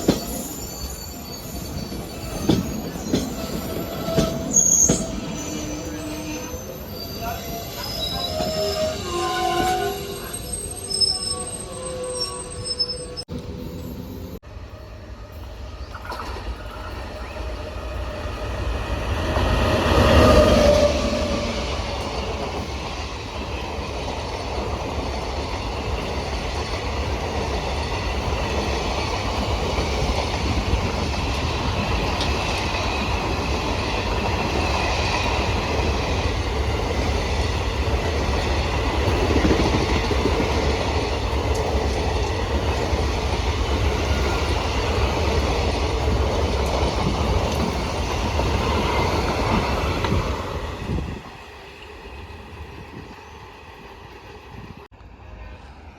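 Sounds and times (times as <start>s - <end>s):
train rumbling past: 0.0s - 55.9s.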